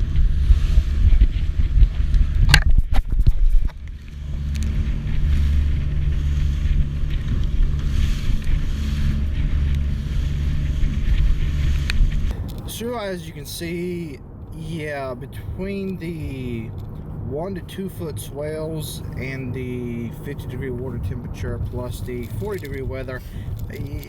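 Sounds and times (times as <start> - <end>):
boat motor running: 0.0 - 24.0
wind buffeting microphone: 0.0 - 24.0.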